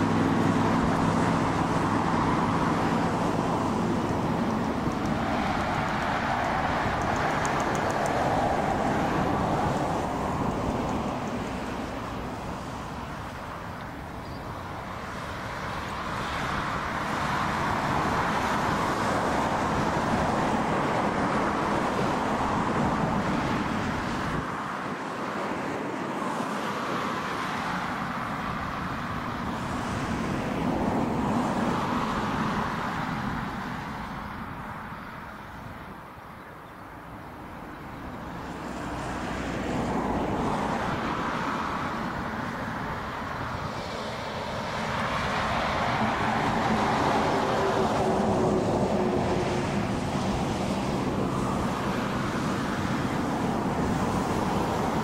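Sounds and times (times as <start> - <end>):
rushing vehicle noise: 0.0 - 55.0.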